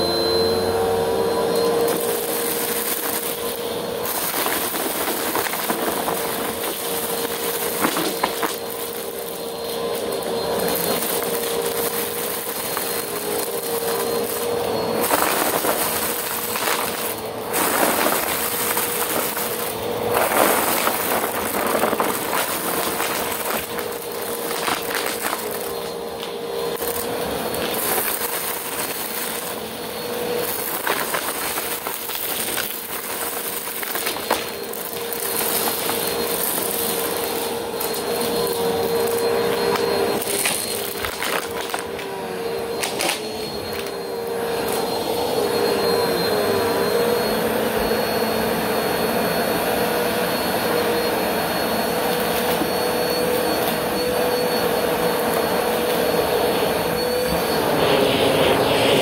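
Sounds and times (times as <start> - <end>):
vacuum cleaner motor whine: 0.0 - 59.0.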